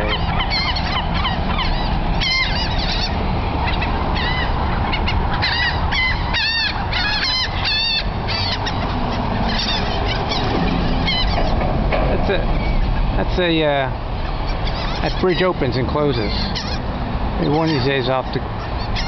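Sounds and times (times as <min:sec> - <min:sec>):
steady low rumble: 0:00.0 - 0:17.5
seagulls squawking: 0:00.0 - 0:19.0.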